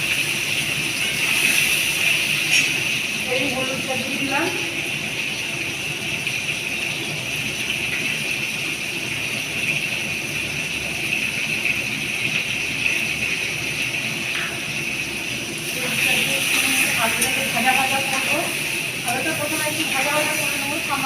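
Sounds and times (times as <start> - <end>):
potatoes sizzling in hot oil: 0.0 - 21.0.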